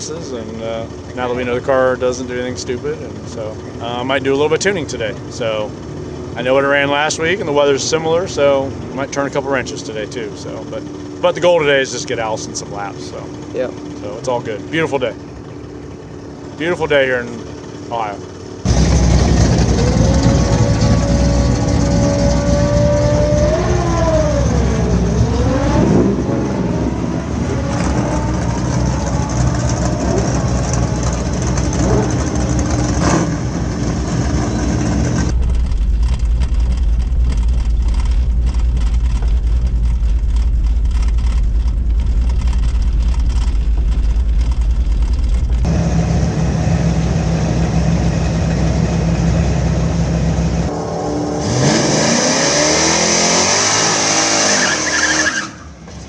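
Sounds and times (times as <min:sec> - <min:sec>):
deep steady rumble: 0:00.0 - 0:53.8
race car engine running: 0:00.0 - 0:56.0.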